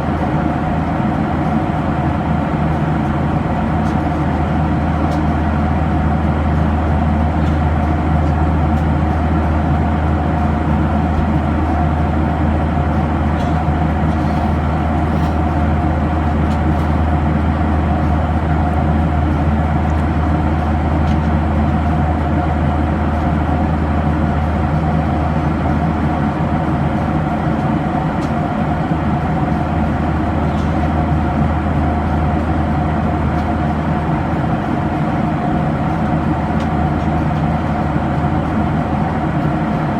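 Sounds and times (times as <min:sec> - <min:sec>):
jet cabin engine rumble: 0:00.0 - 0:39.9
steady mid-pitched hum: 0:00.0 - 0:39.9.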